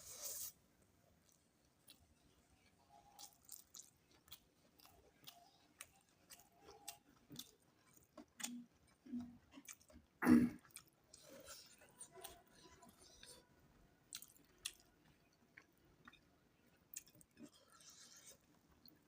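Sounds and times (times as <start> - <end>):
chewing with wet mouth clicks: 1.2 - 13.4, 14.1 - 17.7.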